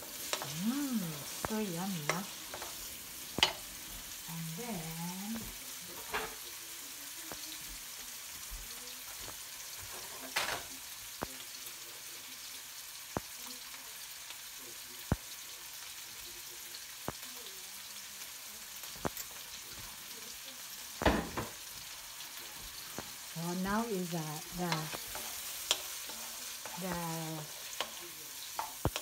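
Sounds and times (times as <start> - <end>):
frying hiss in a wok: 0.0 - 29.0.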